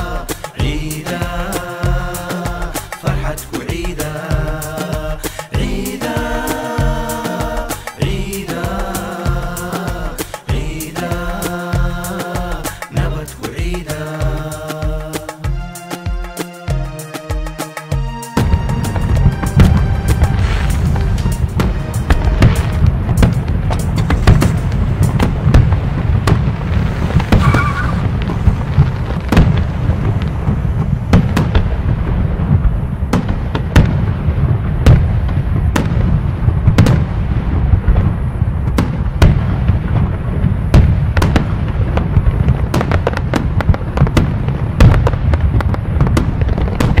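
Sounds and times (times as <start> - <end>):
steady low rumble: 0.0 - 15.0, 18.4 - 47.0
firework bangs and crackle: 0.0 - 17.5, 18.3 - 47.0.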